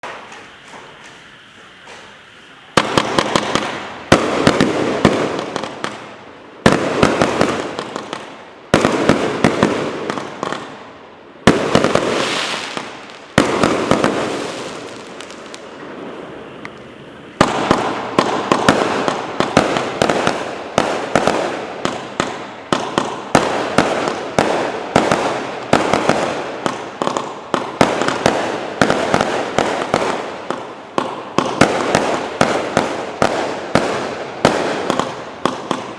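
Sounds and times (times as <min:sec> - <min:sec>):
fireworks cake firing shots: 0:02.8 - 0:10.8, 0:11.5 - 0:35.9.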